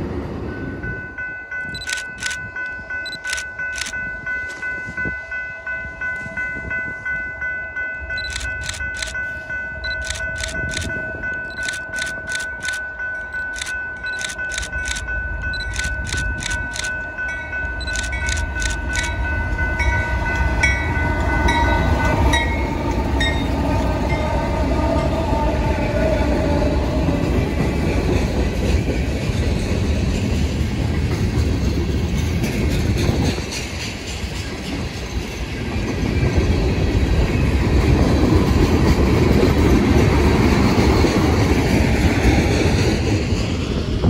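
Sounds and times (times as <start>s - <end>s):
freight train rumble and wheels: 0.0s - 44.0s.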